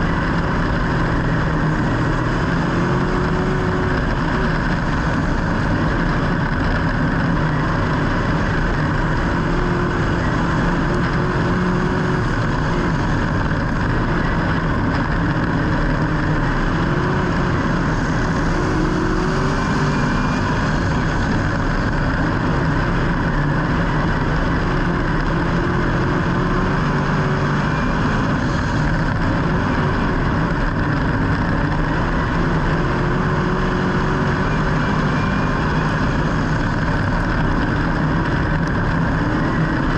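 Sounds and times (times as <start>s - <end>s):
engines droning: 0.0s - 39.9s.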